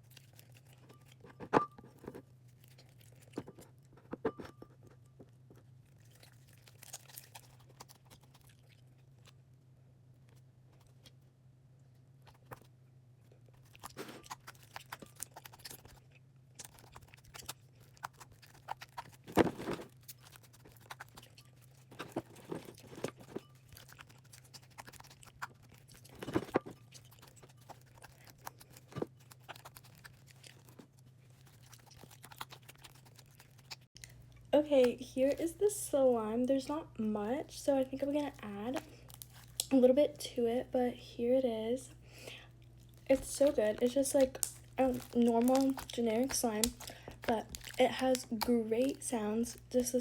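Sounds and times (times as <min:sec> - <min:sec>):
slime squishing: 0:00.0 - 0:11.2, 0:12.1 - 0:50.0
faint steady hum: 0:00.0 - 0:50.0.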